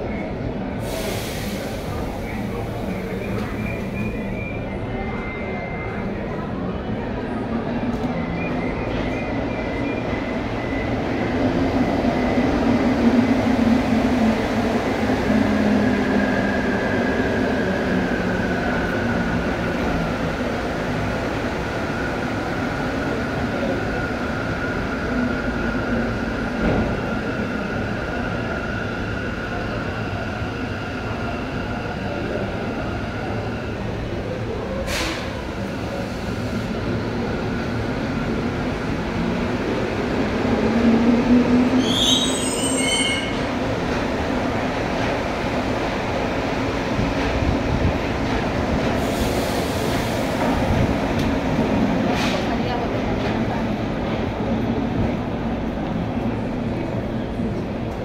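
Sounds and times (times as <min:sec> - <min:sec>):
metro train rumbling to a stop: 0:00.0 - 0:58.0.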